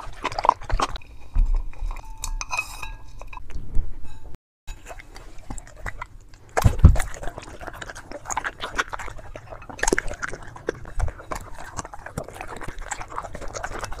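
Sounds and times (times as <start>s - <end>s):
puppy chewing and smacking: 0.0s - 2.3s, 4.7s - 14.0s.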